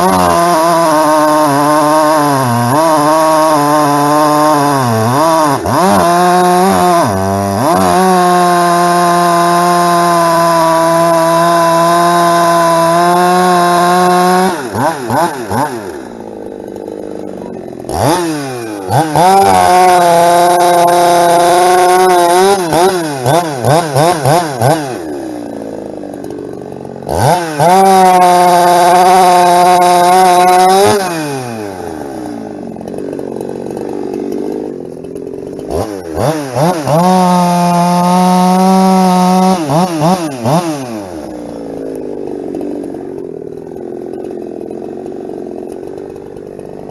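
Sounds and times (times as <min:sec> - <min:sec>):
chainsaw cutting wood: 0:00.0 - 0:46.9
chainsaw throttle blipping: 0:00.0 - 0:46.9.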